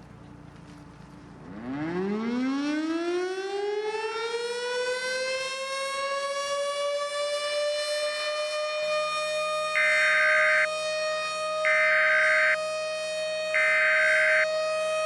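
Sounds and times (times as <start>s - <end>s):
civil defense siren winding up: 1.5s - 15.0s.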